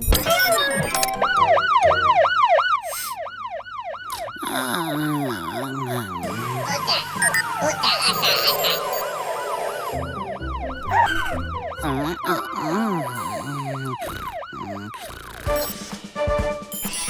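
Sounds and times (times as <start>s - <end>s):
cartoon siren wailing: 0.1s - 15.8s.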